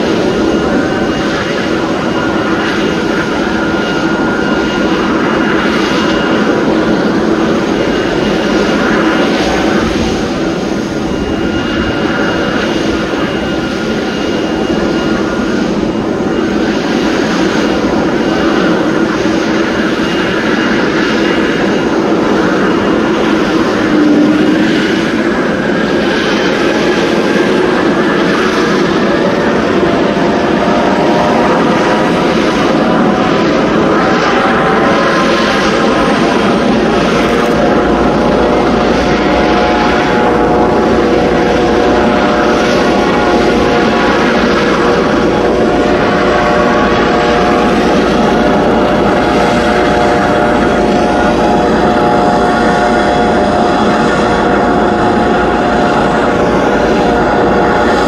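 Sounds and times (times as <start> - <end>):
engine and rotor rush: 0.0 - 58.0
helicopter turbine whine: 0.0 - 58.0.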